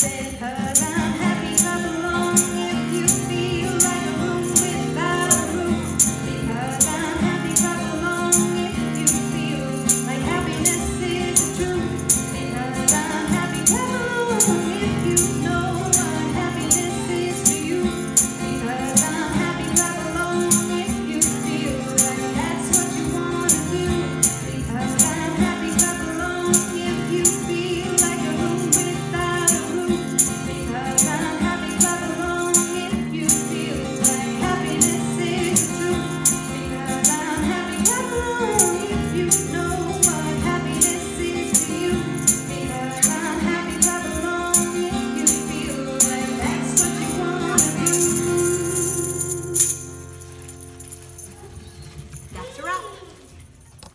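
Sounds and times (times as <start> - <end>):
woman singing: 0.0 - 50.3
strummed acoustic guitar: 0.0 - 52.0
tambourine shaken: 0.0 - 53.9.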